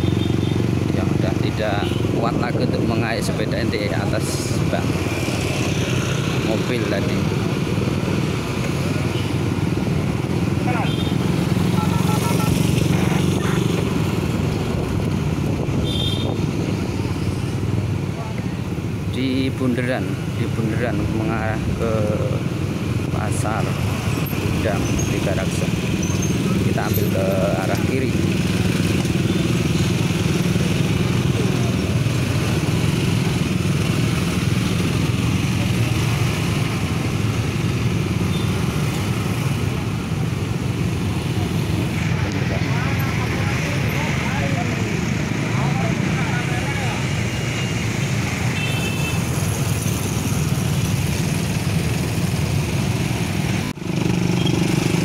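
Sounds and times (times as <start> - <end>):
motorcycle engines rumbling: 0.0 - 55.0.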